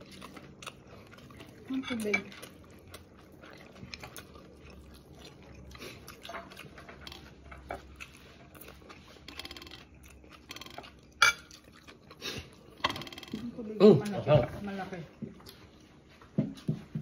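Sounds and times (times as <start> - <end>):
chewing and mouth noises: 0.0 - 17.0.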